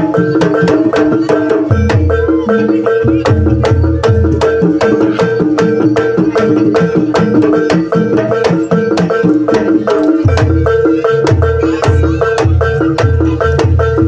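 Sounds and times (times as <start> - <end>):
gamelan music: 0.0 - 14.0
ringing melodic notes: 0.0 - 14.0.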